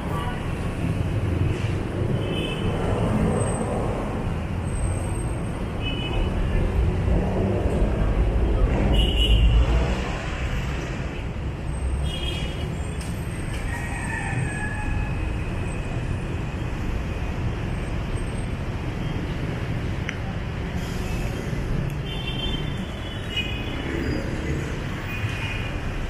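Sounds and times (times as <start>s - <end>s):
traffic engines and tyres: 0.0s - 26.0s.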